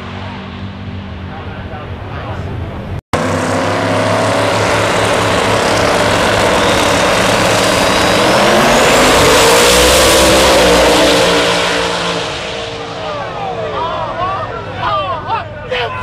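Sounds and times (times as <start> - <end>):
drag racing car engines: 0.0 - 16.0.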